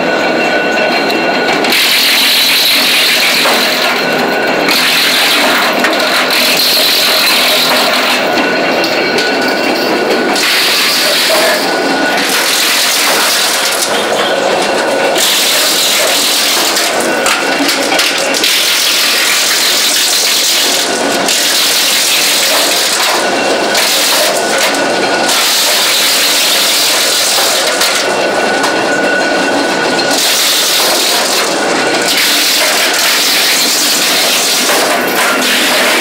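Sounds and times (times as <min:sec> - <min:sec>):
wood chipper chipping wood: 0:00.0 - 0:36.0.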